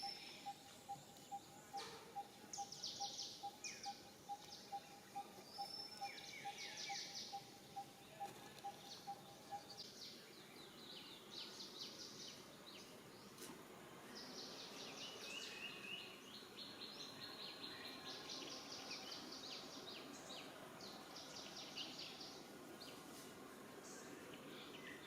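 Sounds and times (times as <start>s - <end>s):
birds chirping: 0.0s - 13.4s, 14.0s - 25.0s
faint outdoor background noise: 0.0s - 25.0s.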